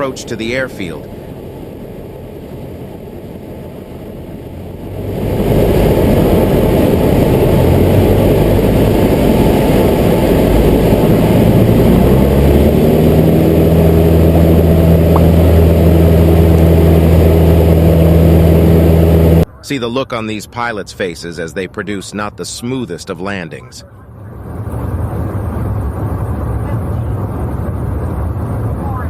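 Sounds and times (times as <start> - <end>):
aircraft engine drone: 0.0 - 29.0.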